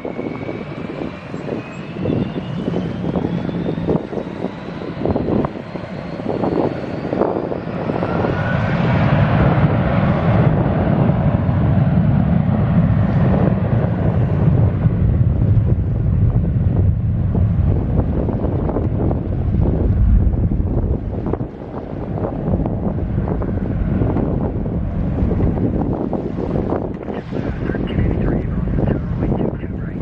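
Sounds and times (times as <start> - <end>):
jet engines whining and rumbling: 0.0 - 30.0
wind buffeting microphone: 0.0 - 30.0.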